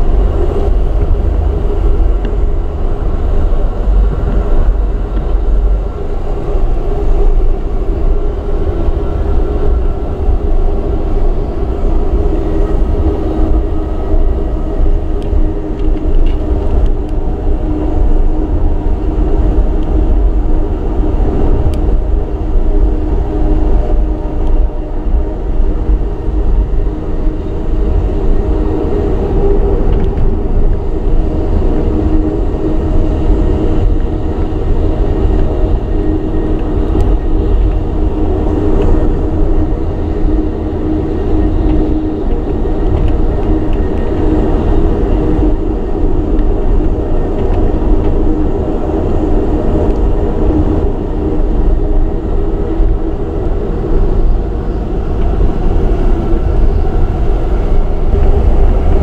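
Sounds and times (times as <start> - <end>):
steady hum: 0.0 - 59.0
train wheels rumbling on rail: 0.0 - 59.0.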